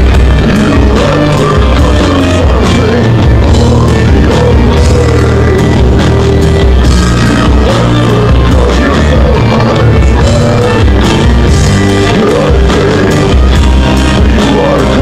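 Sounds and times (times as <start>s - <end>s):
metal band playing live: 0.0s - 15.0s
vocals: 0.0s - 15.0s.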